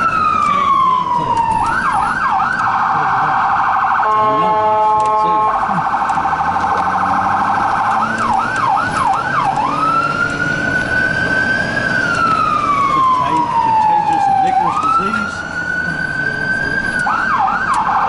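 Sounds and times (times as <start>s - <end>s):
electronic siren switching tones: 0.0s - 18.0s.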